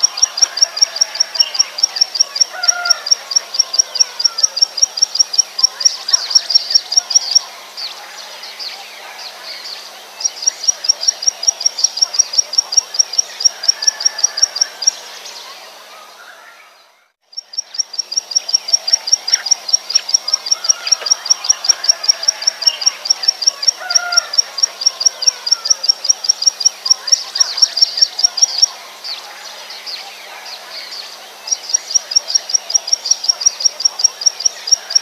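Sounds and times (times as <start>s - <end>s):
bird song of sharp high notes: 0.0s - 35.0s.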